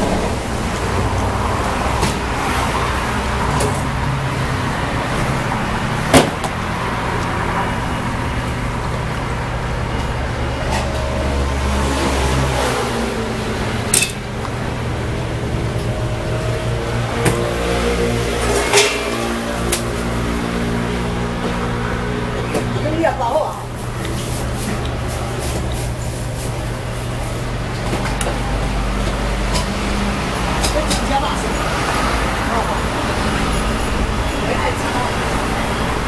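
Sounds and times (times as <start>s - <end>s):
low rumble of road traffic: 0.0s - 36.0s.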